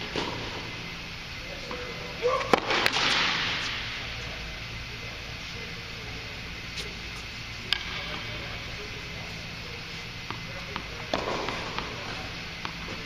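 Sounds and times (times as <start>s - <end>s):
echo in indoor court: 0.0s - 13.0s.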